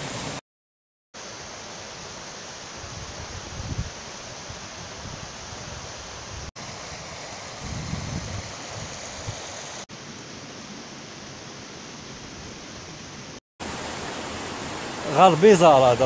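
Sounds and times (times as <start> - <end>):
stream rushing over rocks: 1.2 - 12.3, 13.0 - 16.0.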